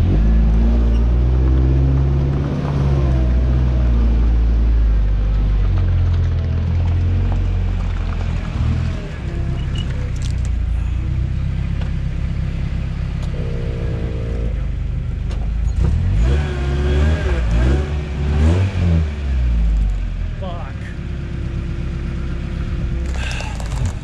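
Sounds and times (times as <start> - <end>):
truck engine running: 0.0 - 18.2, 19.4 - 24.0.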